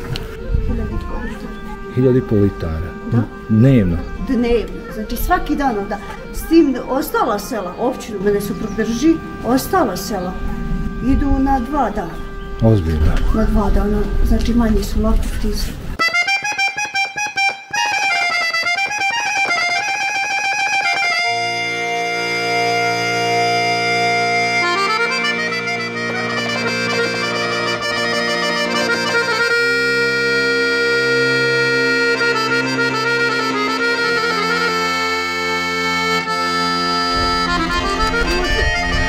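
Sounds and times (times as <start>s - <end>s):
background music with chords: 0.0s - 14.5s, 21.0s - 39.0s.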